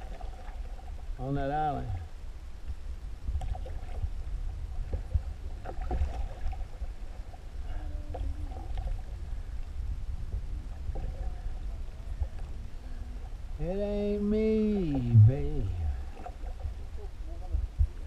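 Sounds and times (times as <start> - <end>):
paddle strokes and splashes: 0.0 - 1.2, 1.9 - 18.0
steady low rumble: 0.0 - 18.0.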